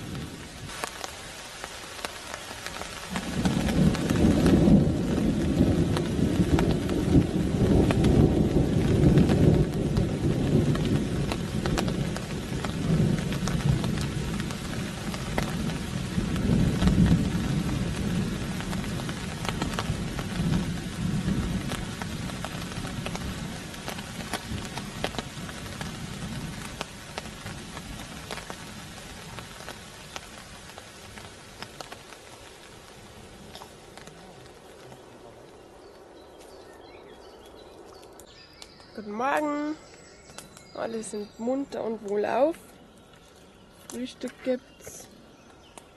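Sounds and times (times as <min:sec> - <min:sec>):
thunder rumbling: 0:00.0 - 0:01.4, 0:02.1 - 0:42.8
rain pattering: 0:00.0 - 0:45.9.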